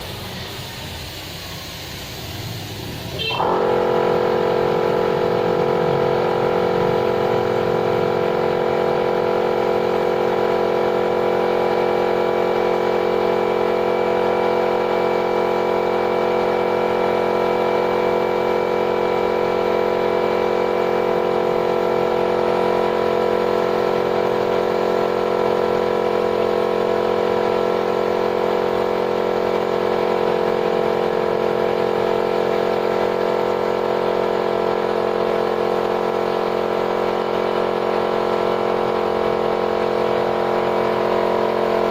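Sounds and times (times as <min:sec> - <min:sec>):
paint sprayer motor running: 0:00.0 - 0:41.9.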